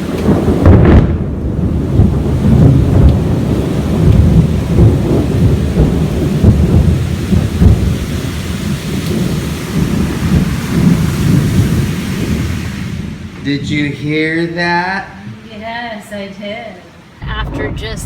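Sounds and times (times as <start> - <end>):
rolling thunder: 0.0 - 14.0, 17.2 - 18.0
heavy rain hissing: 0.0 - 18.0.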